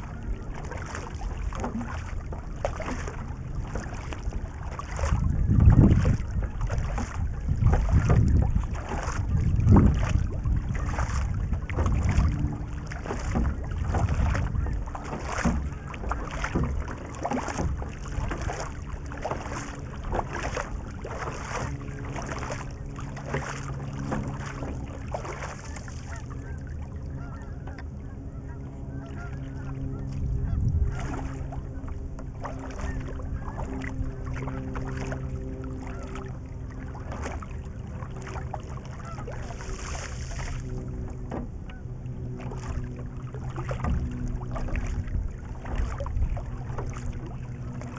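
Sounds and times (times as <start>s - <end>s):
paddle splashing in water: 0.0s - 47.9s
wind buffeting microphone: 0.0s - 47.9s.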